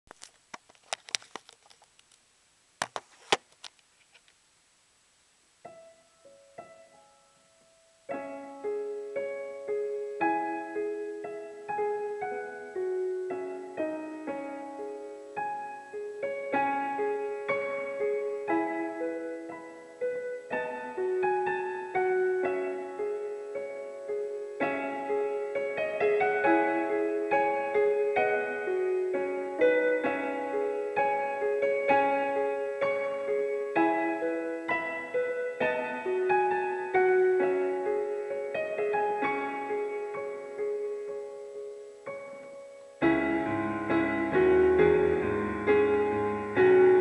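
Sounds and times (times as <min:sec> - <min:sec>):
piano playing: 0:05.6 - 0:47.0.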